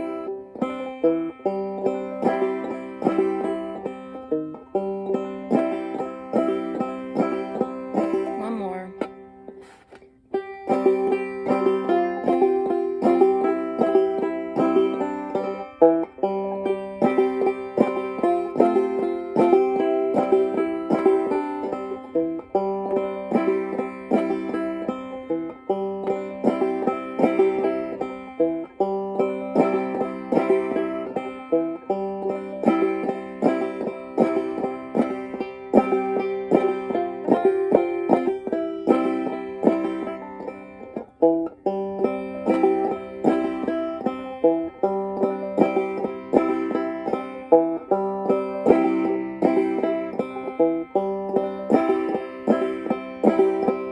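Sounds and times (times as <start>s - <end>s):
banjo plucked and strummed: 0.0s - 53.9s.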